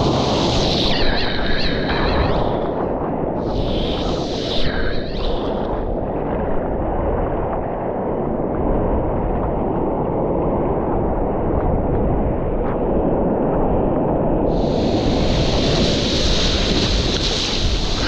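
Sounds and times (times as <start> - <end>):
muffled ocean surf rushing: 0.0 - 18.0.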